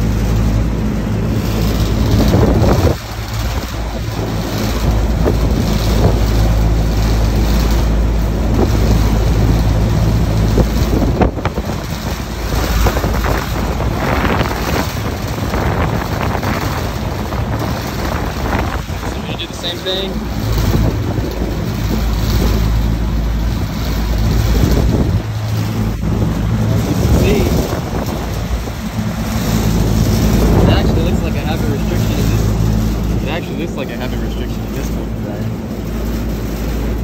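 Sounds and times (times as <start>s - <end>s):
rushing airflow: 0.0s - 37.0s.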